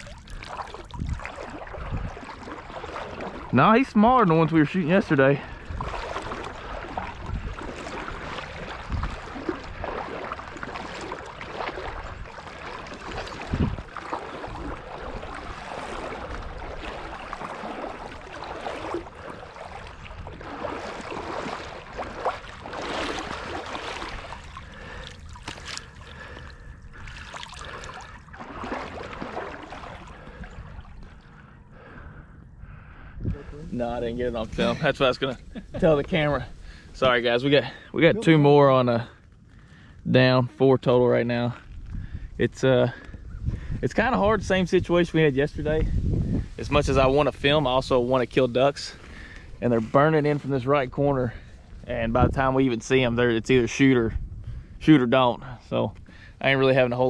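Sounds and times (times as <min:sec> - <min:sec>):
water splashing in shallow water: 0:00.0 - 0:57.0.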